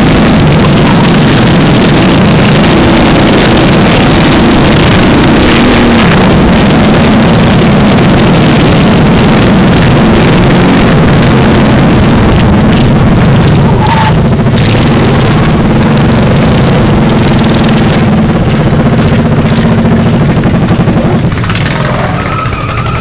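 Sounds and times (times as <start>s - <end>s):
lawn tractor engine running: 0.0s - 23.0s.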